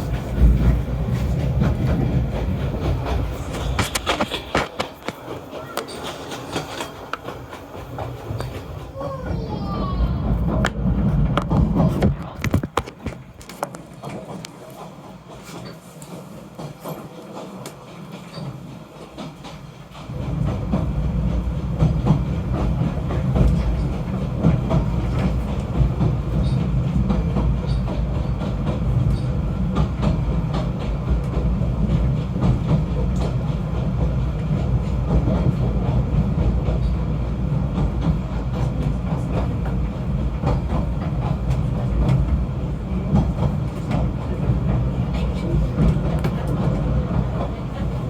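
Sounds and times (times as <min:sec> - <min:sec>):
train low rumble: 0:00.0 - 0:48.0.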